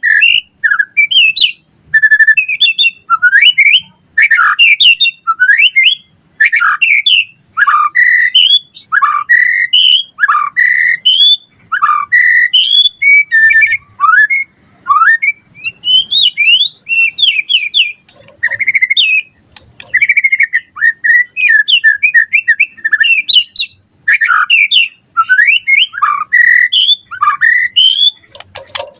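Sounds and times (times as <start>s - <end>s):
bird singing whistled phrases: 0.0s - 28.3s.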